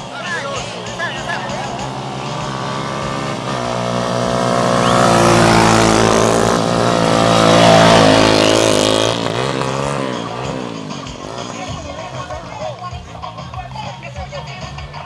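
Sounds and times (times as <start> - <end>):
motorcycle taxis revving: 0.0 - 15.0.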